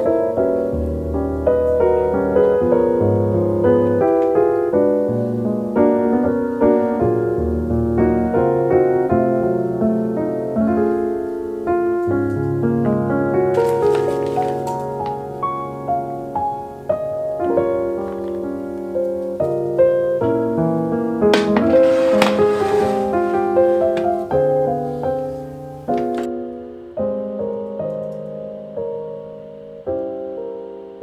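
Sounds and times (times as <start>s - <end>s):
calm piano music: 0.0s - 31.0s.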